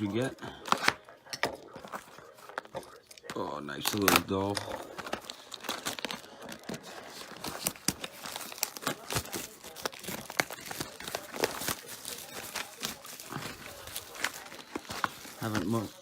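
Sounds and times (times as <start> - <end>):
plastic shrink wrap crinkling and tearing: 0.0 - 16.0.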